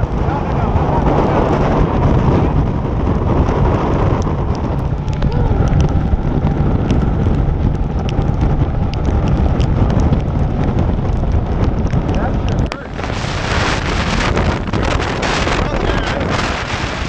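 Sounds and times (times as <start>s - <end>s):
driving rain: 0.0s - 17.0s
raindrops ticking close by: 0.0s - 17.0s
wind buffeting microphone: 0.0s - 17.0s.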